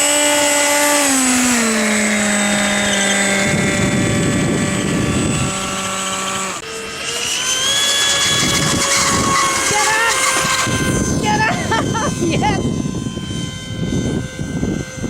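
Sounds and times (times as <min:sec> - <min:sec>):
rough noise: 0:00.0 - 0:12.4
electric ducted fan whine: 0:00.0 - 0:15.0.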